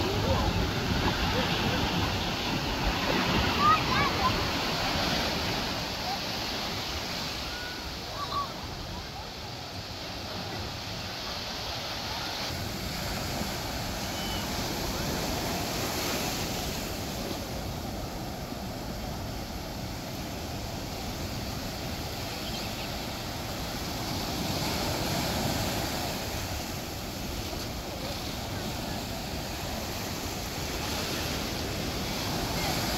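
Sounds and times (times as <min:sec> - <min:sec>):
ocean surf breaking: 0:00.0 - 0:32.9.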